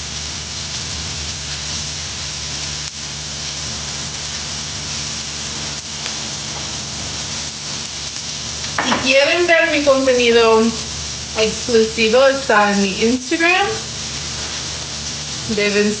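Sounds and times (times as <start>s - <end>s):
food sizzling in a frying pan: 0.0s - 16.0s
low steady hum: 0.2s - 16.0s.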